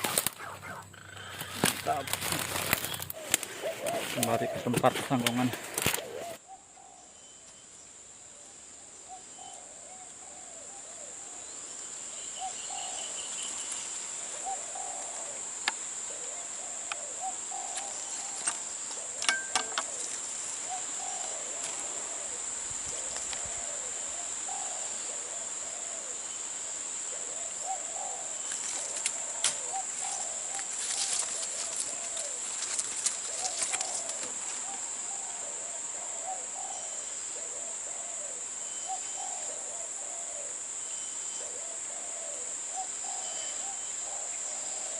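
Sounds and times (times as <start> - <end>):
doves cooing: 0.0 - 7.1, 12.3 - 44.9
insects droning: 0.0 - 44.9.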